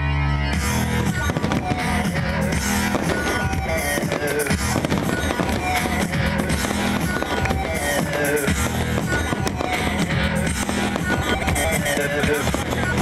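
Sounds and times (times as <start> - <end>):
fireworks banging and crackling: 0.6 - 13.0.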